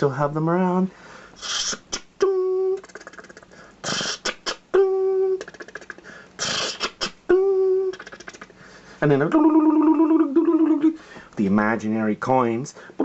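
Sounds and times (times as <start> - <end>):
man beatboxing slot machine sounds: 1.4 - 11.9.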